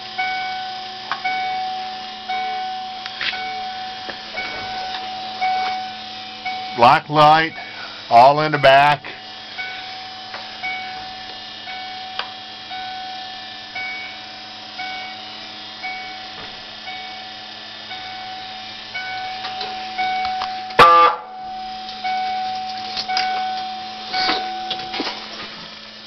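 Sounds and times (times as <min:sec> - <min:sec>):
turn signal flasher ticking: 0:00.0 - 0:07.8, 0:09.2 - 0:26.0
steady low hum: 0:00.0 - 0:26.0.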